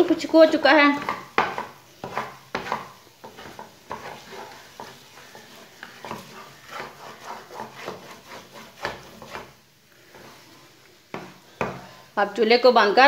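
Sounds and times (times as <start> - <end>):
wooden spatula scraping a pan: 0.0 - 12.4.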